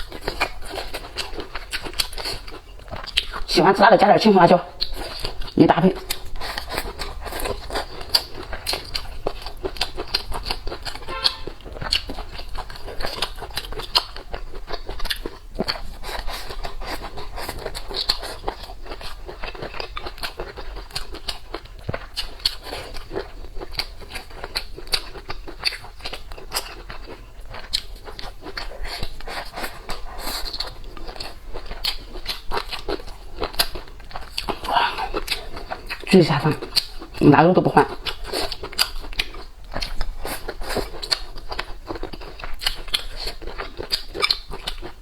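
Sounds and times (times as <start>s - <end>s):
crunchy chewing: 0.0s - 45.0s.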